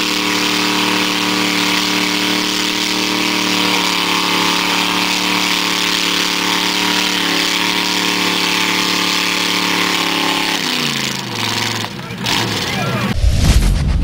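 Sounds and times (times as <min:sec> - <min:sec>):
truck engine revving high: 0:00.0 - 0:13.3.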